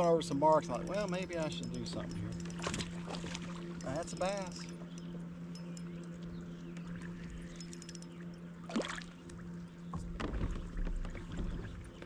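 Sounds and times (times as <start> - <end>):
electric trolling motor humming: 0.0 - 12.0.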